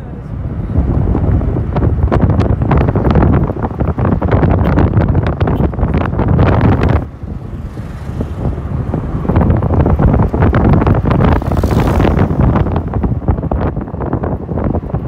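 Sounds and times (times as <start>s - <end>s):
motorcycle ride rumble: 0.0s - 15.0s
wind buffeting microphone: 0.0s - 15.0s.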